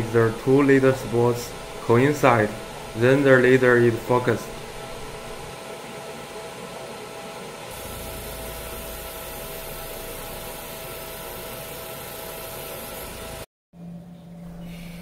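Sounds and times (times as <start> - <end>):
laser machine hum and whine: 0.0 - 15.0.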